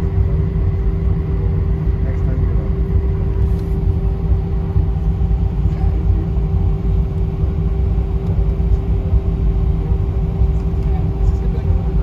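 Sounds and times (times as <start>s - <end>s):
constant hum: 0.0s - 12.0s
vehicle cabin rumble: 2.3s - 12.0s.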